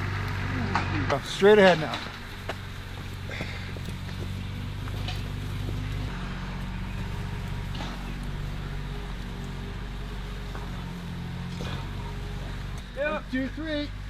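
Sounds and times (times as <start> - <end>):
machinery engine running: 0.0 - 14.0.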